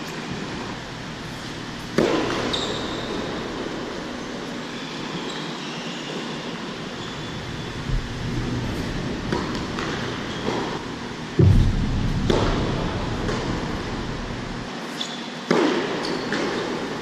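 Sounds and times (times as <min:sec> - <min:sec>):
background noise: 0:00.0 - 0:17.0.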